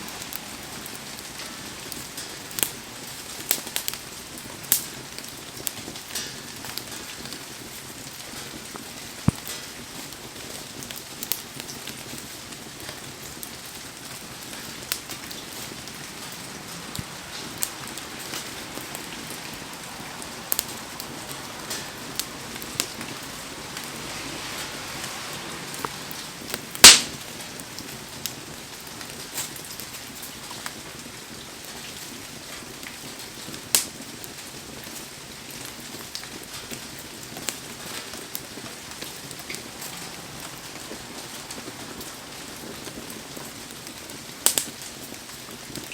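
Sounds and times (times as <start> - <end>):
campfire crackling and popping: 0.0 - 45.9
heavy rain falling: 0.0 - 45.9.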